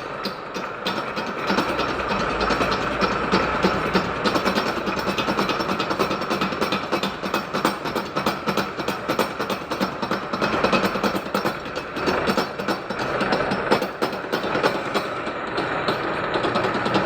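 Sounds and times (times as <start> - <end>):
machinery clattering: 0.0 - 17.0.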